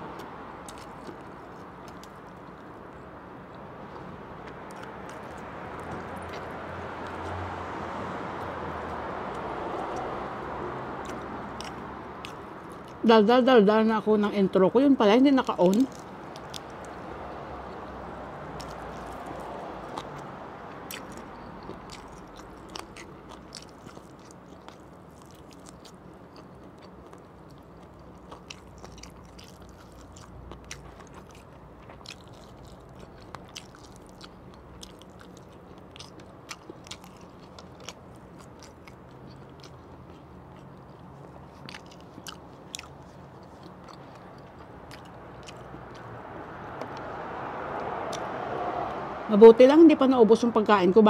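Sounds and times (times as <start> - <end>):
person chewing food: 0.0 - 7.4, 10.9 - 13.0, 15.4 - 47.2.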